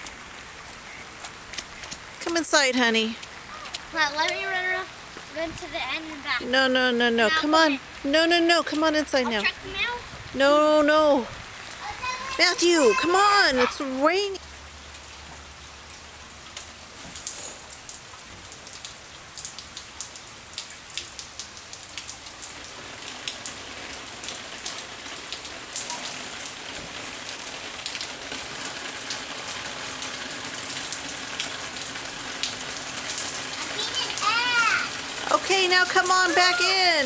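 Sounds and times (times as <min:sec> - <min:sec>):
raindrops ticking: 0:00.0 - 0:37.0
steady rain: 0:00.0 - 0:37.0.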